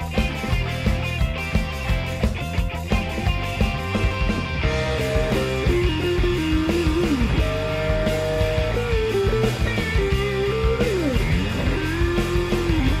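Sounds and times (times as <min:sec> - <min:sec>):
rock guitar melody over beat: 0:00.0 - 0:13.0.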